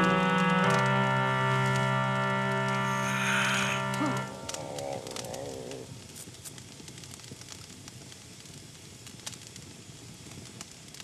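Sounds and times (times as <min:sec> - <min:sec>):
log fire crackling: 0:00.0 - 0:11.0.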